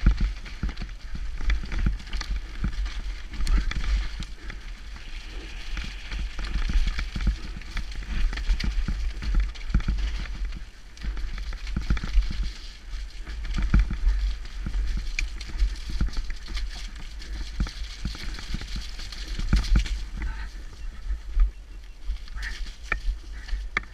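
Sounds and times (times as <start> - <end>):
bike knocking and rattling: 0.0 - 23.9
wind buffeting microphone: 0.0 - 23.9.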